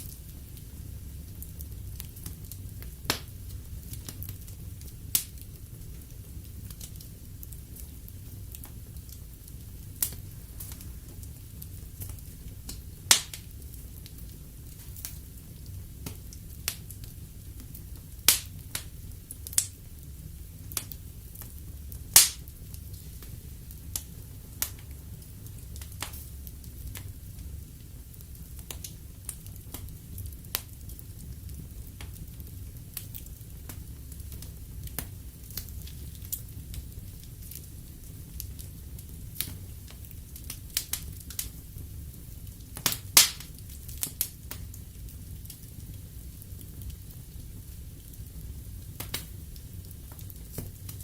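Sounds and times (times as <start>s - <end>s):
fire flames rumbling: 0.0s - 51.0s
logs crackling and popping: 0.0s - 51.0s.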